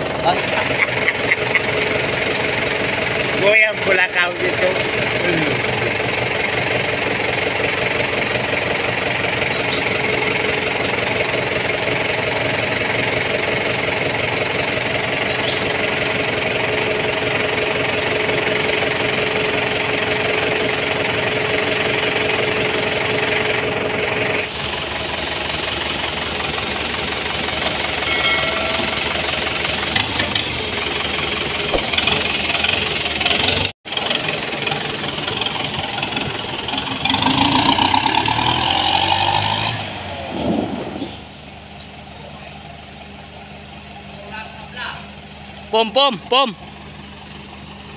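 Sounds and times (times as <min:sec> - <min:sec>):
tractor diesel engine idling: 0:00.0 - 0:37.7, 0:41.2 - 0:47.9.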